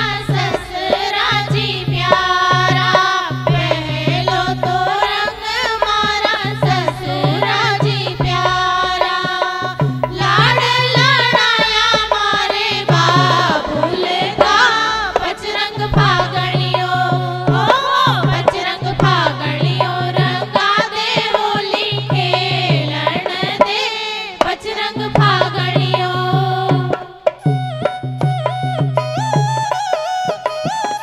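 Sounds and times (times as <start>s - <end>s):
women singing in chorus: 0.0s - 27.3s
hand drum beat: 0.0s - 31.0s.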